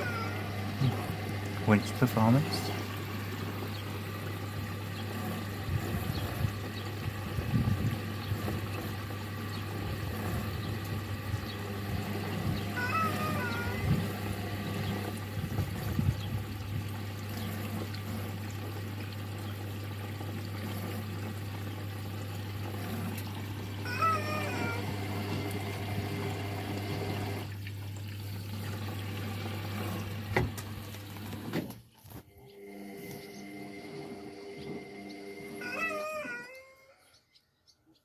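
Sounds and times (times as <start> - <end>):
water rushing into machine: 0.0 - 31.8
inlet valve humming: 0.0 - 35.6.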